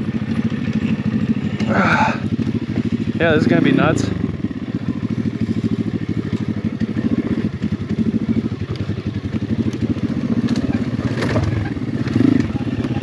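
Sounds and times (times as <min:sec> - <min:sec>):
dirt bike engine puttering: 0:00.0 - 0:13.0.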